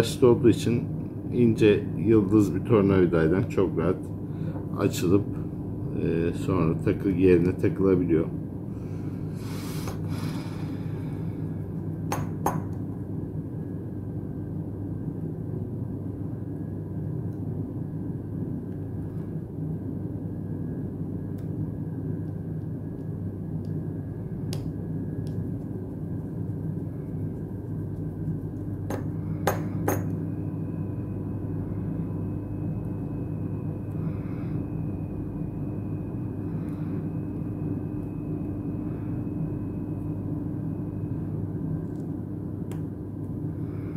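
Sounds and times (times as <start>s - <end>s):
low background hum: 0.0s - 43.9s.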